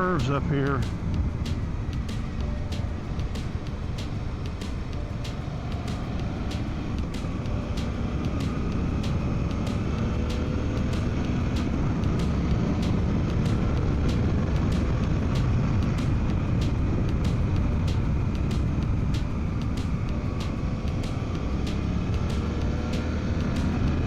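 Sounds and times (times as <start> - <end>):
heavy wind noise: 0.0 - 24.0
light regular ticking: 0.0 - 24.0
motorcycle engine running: 0.0 - 24.0.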